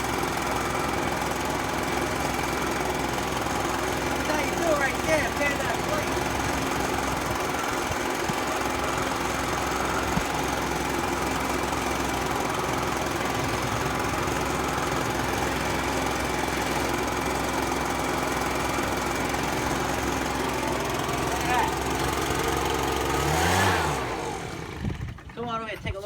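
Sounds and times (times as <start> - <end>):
leaf blower running: 0.0 - 25.8.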